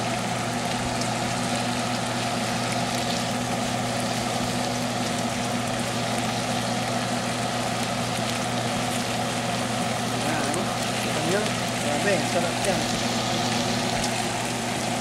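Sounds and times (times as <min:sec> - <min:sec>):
constant low hum: 0:00.0 - 0:15.0
fish sizzling in a frying pan: 0:00.0 - 0:15.0.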